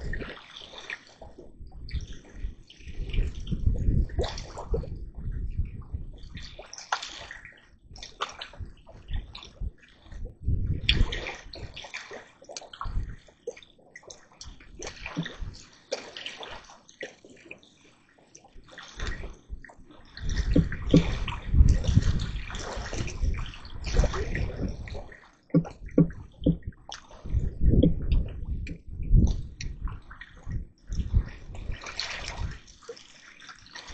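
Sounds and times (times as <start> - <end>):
water sloshing and splashing: 0.0 - 33.9.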